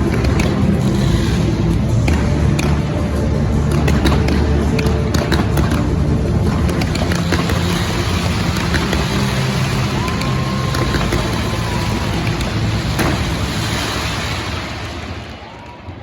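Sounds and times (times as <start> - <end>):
fireworks crackling and bangs: 0.0 - 16.0
low rumble: 0.0 - 16.0.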